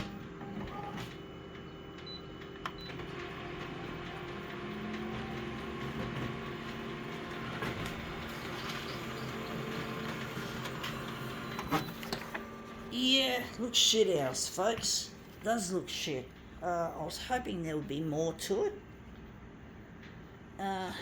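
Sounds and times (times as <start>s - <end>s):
photocopier whirring: 0.0s - 17.0s
photocopier hum: 0.0s - 21.0s.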